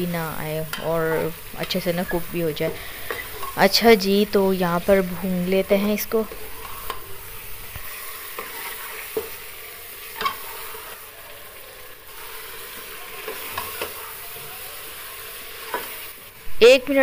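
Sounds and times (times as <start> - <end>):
meat sizzling in hot fat: 0.0 - 17.0.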